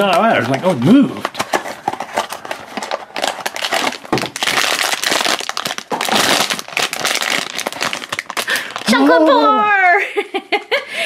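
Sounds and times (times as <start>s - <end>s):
foil bag crinkling: 0.0s - 9.4s.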